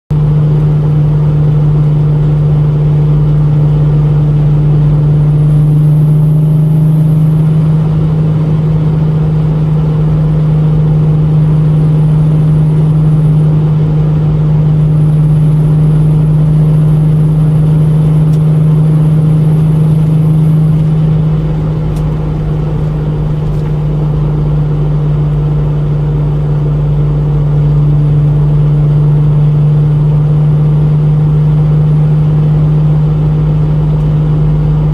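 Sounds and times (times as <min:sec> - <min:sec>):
engine ticking: 0:00.1 - 0:28.4
car engine pulling under load: 0:00.2 - 0:29.2.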